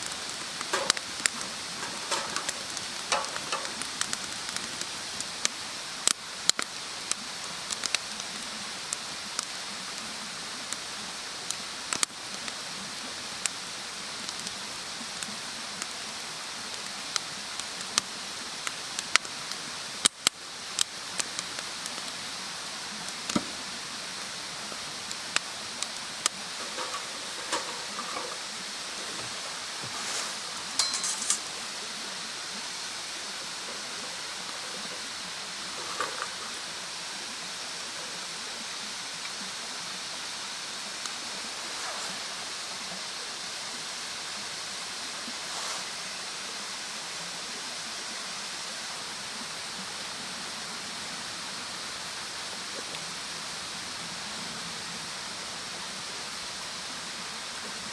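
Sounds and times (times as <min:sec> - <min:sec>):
wood bonfire crackling: 0:00.0 - 0:57.9.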